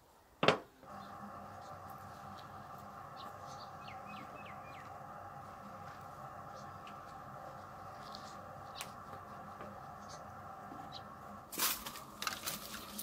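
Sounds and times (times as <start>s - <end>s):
steady low hum: 0.8s - 13.0s
small birds chirping: 0.9s - 11.5s.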